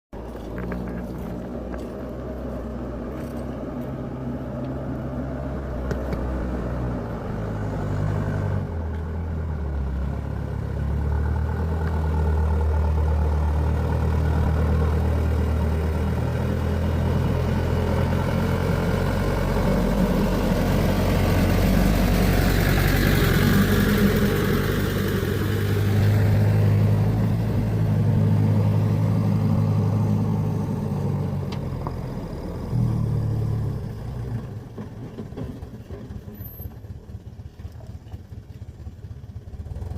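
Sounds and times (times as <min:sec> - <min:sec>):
truck engine running: 0:00.1 - 0:39.9.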